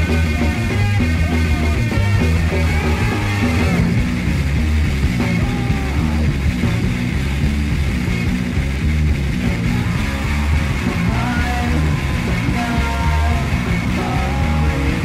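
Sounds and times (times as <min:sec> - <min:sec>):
punk rock song: 0:00.0 - 0:15.0
sustained high guitar line: 0:00.0 - 0:15.0.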